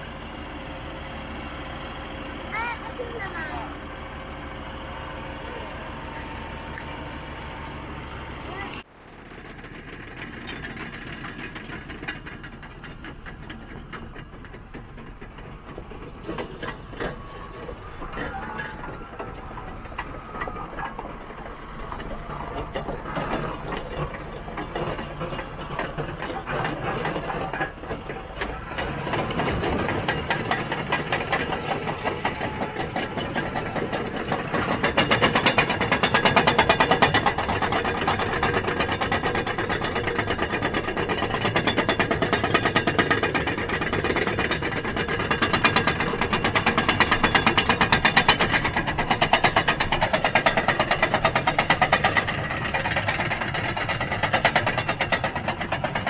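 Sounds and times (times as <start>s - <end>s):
diesel engine running: 0.0s - 56.0s
steel tracks clanking: 0.0s - 56.0s.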